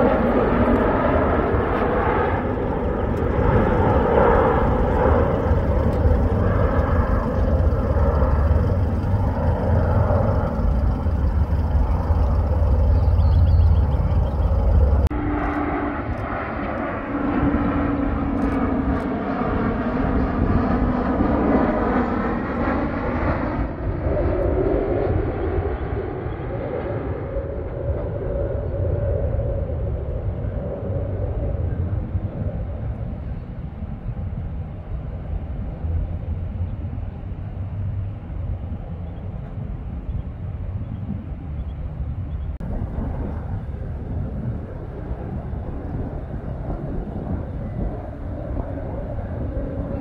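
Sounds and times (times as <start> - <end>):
jet airliner flying overhead: 0.0 - 50.0.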